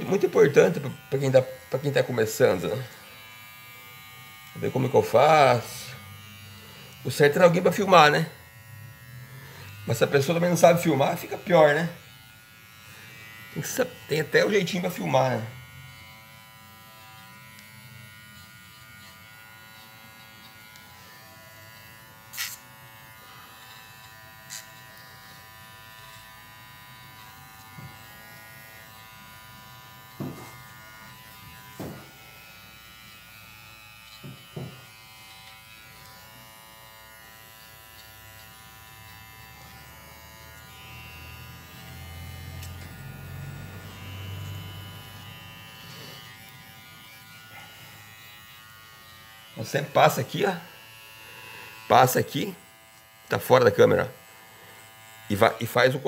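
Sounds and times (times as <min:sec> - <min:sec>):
pet clipper running: 0:00.0 - 0:56.0.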